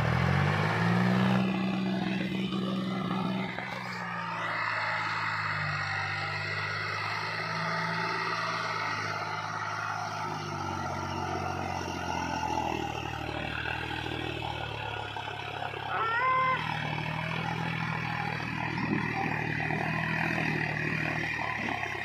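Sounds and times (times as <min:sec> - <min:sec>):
tractor engine under load: 0:00.0 - 0:22.0.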